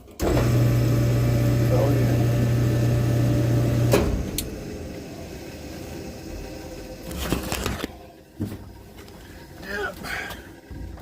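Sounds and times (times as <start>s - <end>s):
dryer motor humming: 0.0s - 11.0s.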